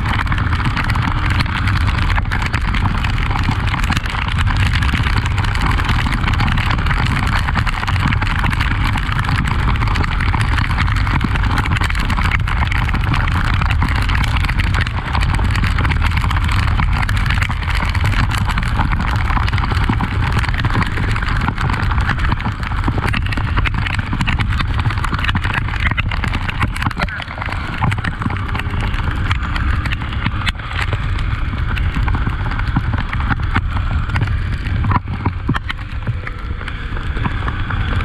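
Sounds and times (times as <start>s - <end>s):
motorcycle engine riding: 0.0s - 38.0s
wind on the microphone: 0.0s - 38.0s.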